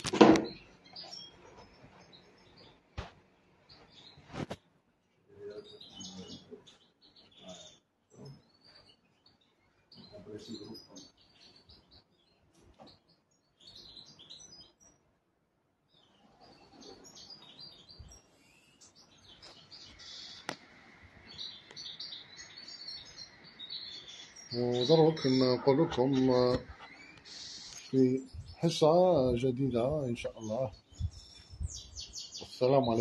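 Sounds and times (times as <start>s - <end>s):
small bird chirping: 0.0s - 3.0s, 3.6s - 4.5s, 5.4s - 15.1s, 15.9s - 33.0s.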